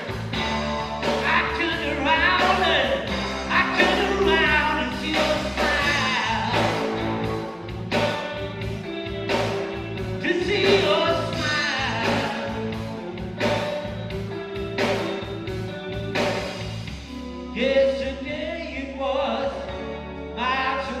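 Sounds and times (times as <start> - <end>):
band music with steady beat: 0.0 - 21.0.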